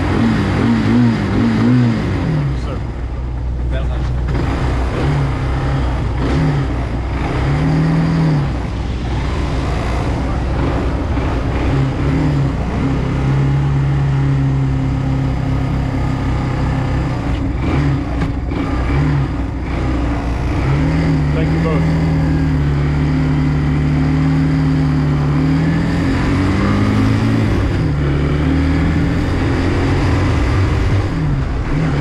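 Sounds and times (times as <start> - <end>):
small motorbike engine revving: 4.2 - 14.0, 15.2 - 32.0.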